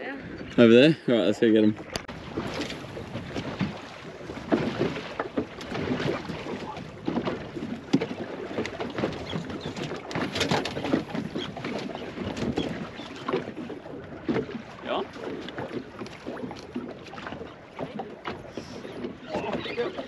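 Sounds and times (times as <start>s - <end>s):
small waves slapping boat hull: 0.0s - 20.0s.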